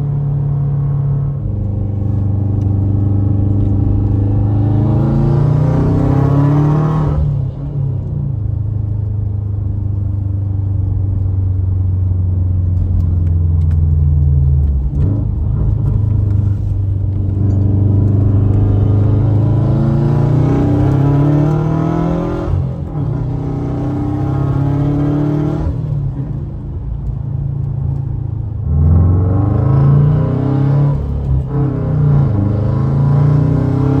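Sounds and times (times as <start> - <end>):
car engine revving in cabin: 0.0 - 34.0.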